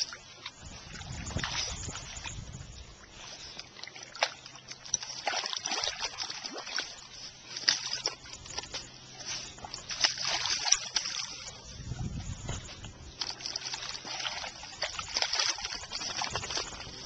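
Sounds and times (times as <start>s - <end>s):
dog splashing in muddy puddle: 0.0s - 17.0s.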